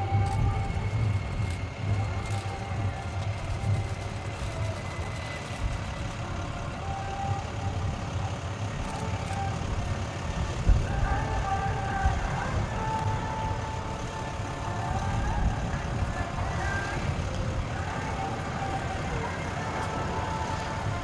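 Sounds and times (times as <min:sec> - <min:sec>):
faint thin whine: 0:00.0 - 0:21.0
jet engine rumble: 0:00.0 - 0:21.0.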